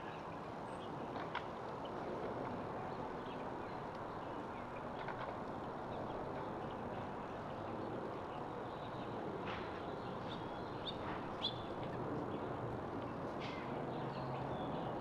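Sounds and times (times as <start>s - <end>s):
songbird chirps: 2.6s - 15.0s.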